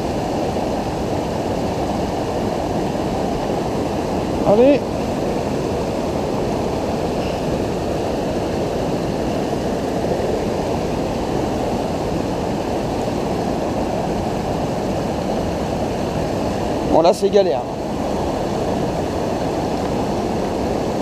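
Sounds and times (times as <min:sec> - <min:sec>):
fast-flowing river water rushing: 0:00.0 - 0:21.0.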